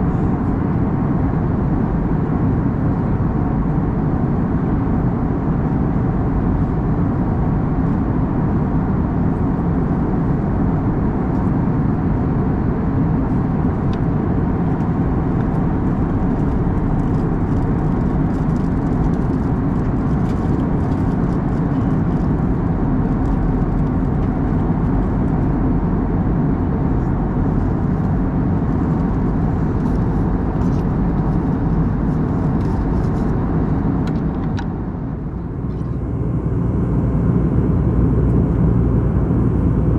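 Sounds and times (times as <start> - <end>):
airplane cabin engine and airflow noise: 0.0 - 39.9.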